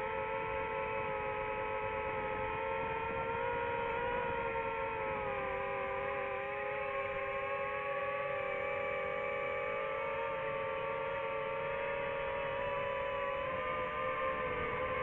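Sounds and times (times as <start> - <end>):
drone propellers whining: 0.1 - 15.0.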